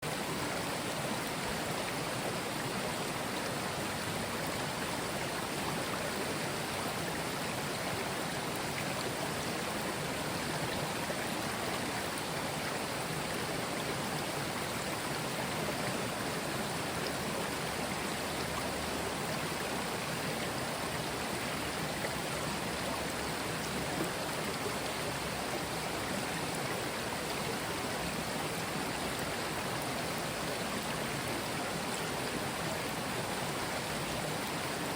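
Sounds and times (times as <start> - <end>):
stream flowing over stones: 0.0 - 34.9.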